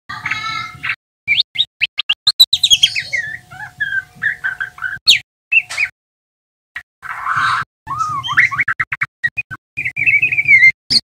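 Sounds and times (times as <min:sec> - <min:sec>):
bird twittering song: 0:00.2 - 0:06.0, 0:07.0 - 0:11.0.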